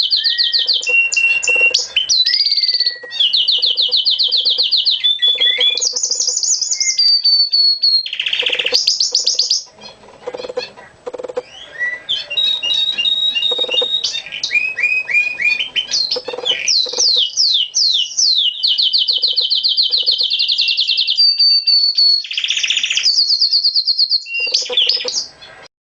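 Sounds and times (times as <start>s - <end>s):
canary singing: 0.0s - 25.7s.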